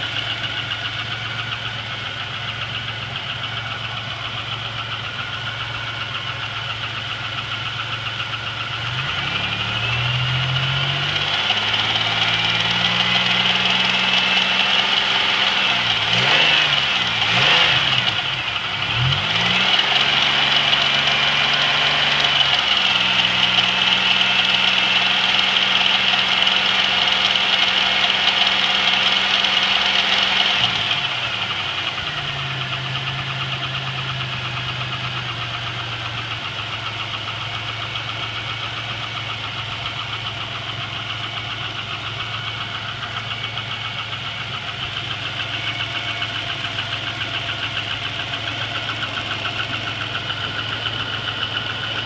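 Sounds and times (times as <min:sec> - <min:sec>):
car engine running: 0:00.0 - 0:52.0
engine ticking knock: 0:00.0 - 0:52.0.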